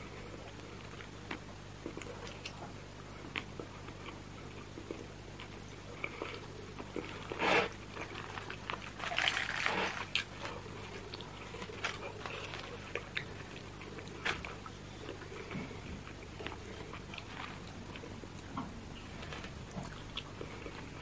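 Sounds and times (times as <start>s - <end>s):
faint steady hum: 0.0s - 21.0s
chewing and mouth sounds: 0.4s - 21.0s.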